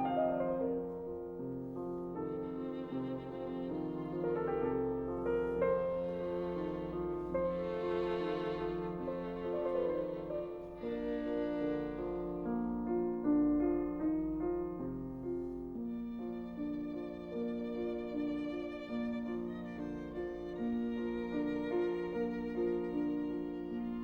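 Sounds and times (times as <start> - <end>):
violin playing slow melody: 0.0 - 13.8, 15.7 - 24.0
soft musical accompaniment: 0.0 - 24.0.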